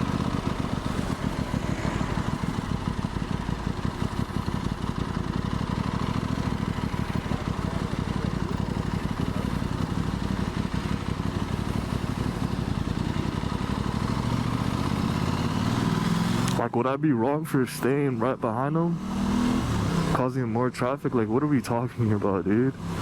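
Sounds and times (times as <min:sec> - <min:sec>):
motorcycle engine running: 0:00.0 - 0:16.6, 0:19.0 - 0:20.3, 0:22.4 - 0:23.0.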